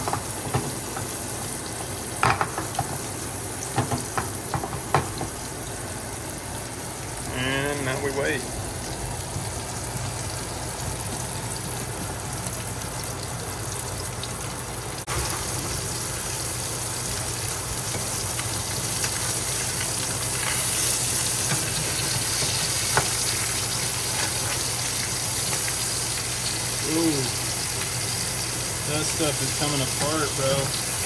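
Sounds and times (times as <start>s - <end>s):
fish sizzling in a pan: 0.0s - 31.0s.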